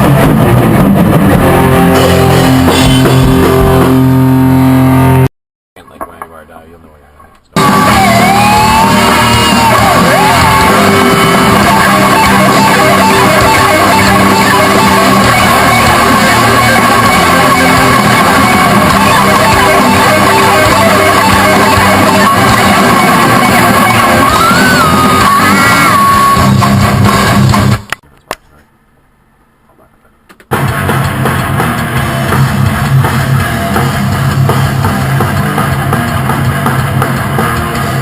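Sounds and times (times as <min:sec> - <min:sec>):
loud rock music: 0:00.0 - 0:05.3, 0:07.6 - 0:28.0, 0:30.5 - 0:38.0.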